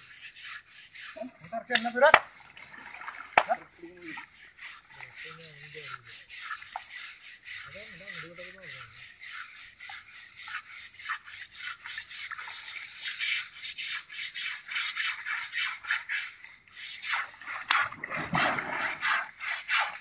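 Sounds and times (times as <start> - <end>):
scrubbers rasping on wet hide: 0.0 - 20.0.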